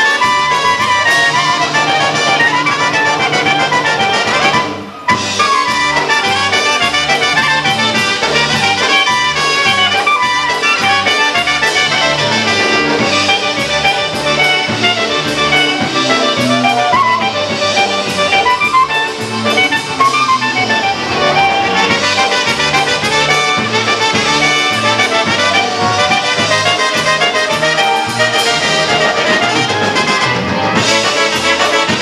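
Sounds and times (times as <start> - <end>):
polka band playing: 0.0 - 32.0.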